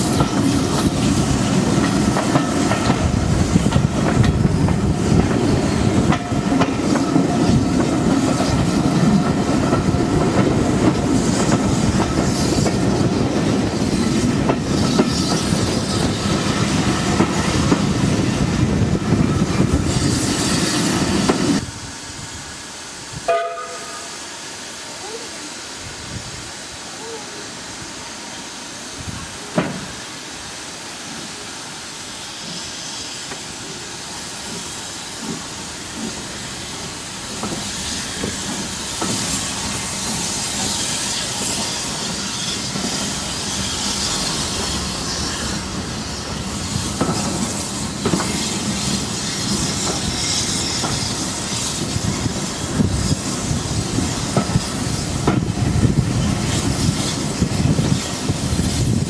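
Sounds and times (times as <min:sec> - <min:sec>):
steam hiss: 0:00.0 - 0:59.0
train rushing noise: 0:00.0 - 0:59.0.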